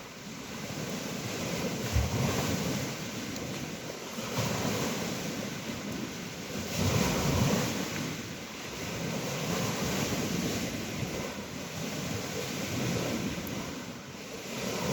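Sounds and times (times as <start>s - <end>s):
waves washing onto shore: 0.0s - 14.9s
wind buffeting microphone: 0.0s - 14.9s.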